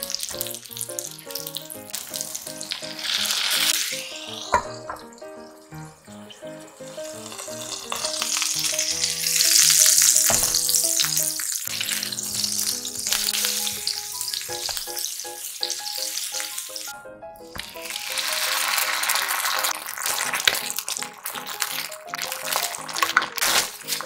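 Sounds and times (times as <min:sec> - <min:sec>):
food sizzling in a frying pan: 0:00.0 - 0:16.9, 0:17.6 - 0:24.0
background music: 0:00.0 - 0:24.0.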